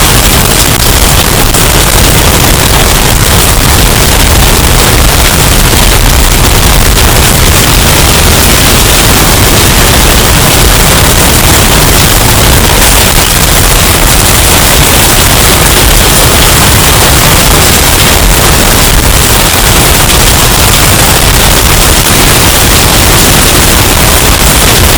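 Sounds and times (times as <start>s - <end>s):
distorted wind and rain noise: 0.0s - 24.9s.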